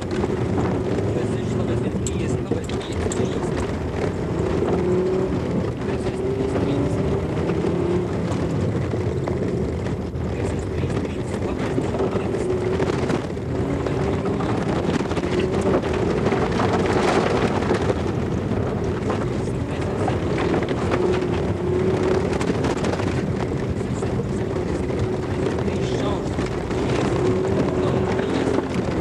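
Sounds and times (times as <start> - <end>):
rally car engine from inside: 0.0 - 29.0
road and wind noise: 0.0 - 29.0.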